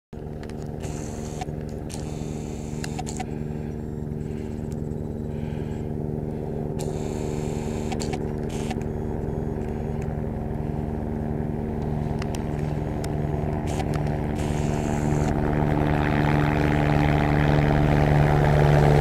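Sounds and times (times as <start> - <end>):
engine droning hum: 0.2 - 19.0.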